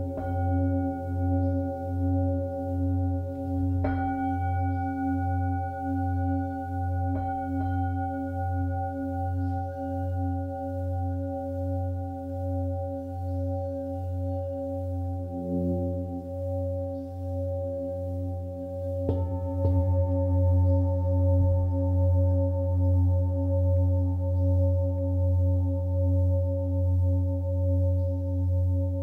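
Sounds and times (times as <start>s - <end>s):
low pulsing hum: 0.0s - 29.0s.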